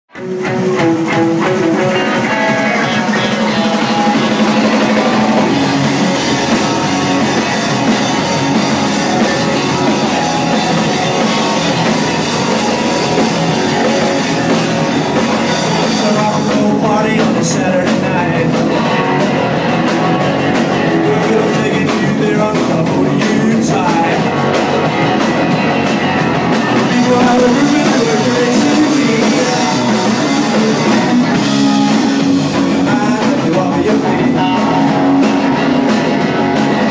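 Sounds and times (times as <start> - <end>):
rock band playing live: 0.1 - 36.9.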